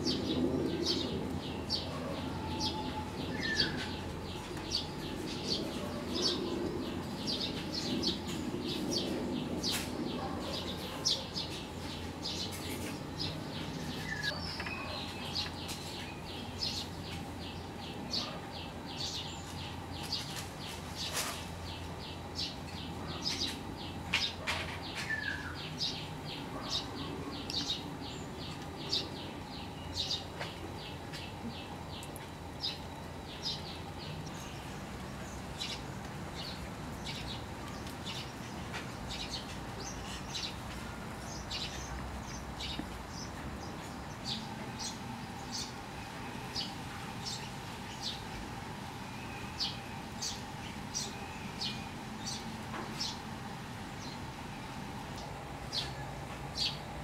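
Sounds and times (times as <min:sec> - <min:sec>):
faint steady hum: 0:00.0 - 0:57.0
small birds chirping: 0:00.0 - 0:57.0.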